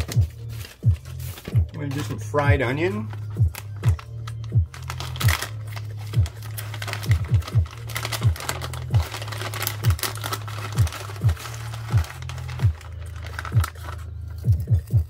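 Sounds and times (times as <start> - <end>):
plastic packet crinkling: 0.0 - 14.7
background music with deep beat: 0.0 - 15.0.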